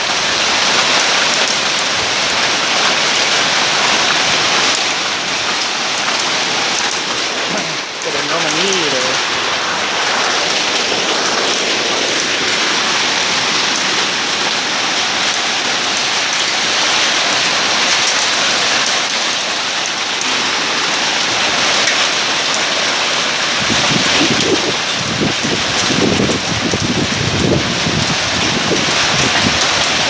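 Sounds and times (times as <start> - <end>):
rain and hail pelting down: 0.0 - 30.0.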